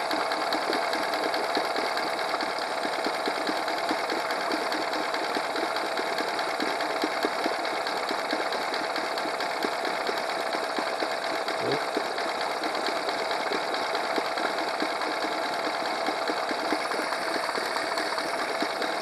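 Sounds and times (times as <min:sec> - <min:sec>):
outboard engine idling: 0:00.0 - 0:19.0.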